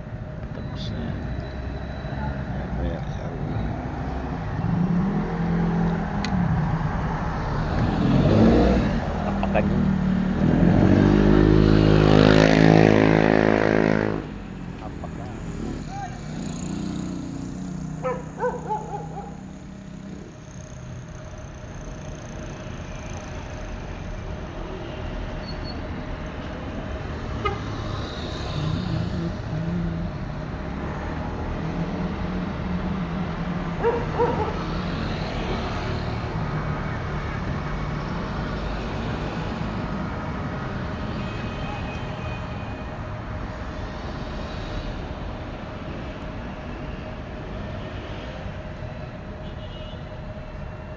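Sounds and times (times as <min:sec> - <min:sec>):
road noise: 0:00.0 - 0:50.9.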